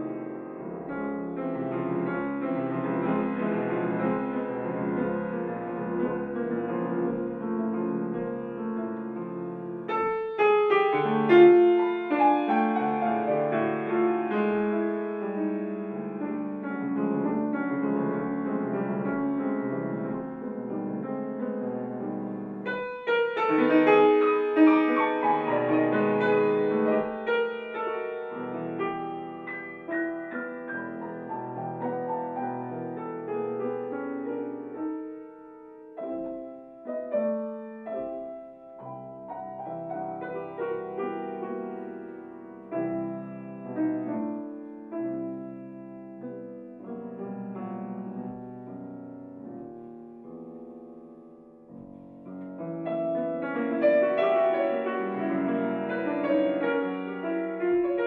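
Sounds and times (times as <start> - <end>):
solo grand piano piece: 0.0 - 58.0.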